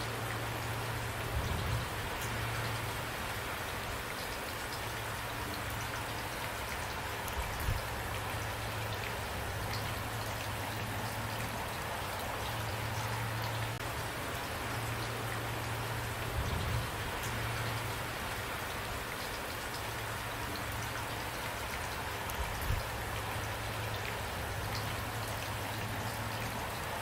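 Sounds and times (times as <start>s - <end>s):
low constant rumble: 0.0s - 27.0s
rain pattering: 0.0s - 27.0s.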